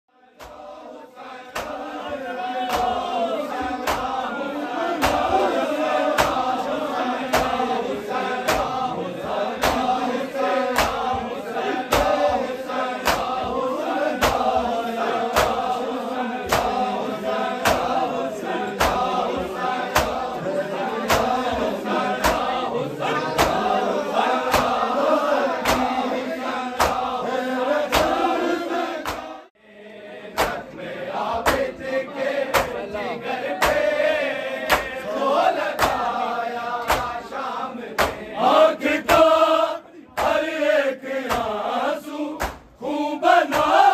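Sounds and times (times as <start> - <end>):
men chanting in unison: 0.1 - 43.9
rhythmic chest-beating slaps: 0.3 - 29.6, 30.2 - 43.9.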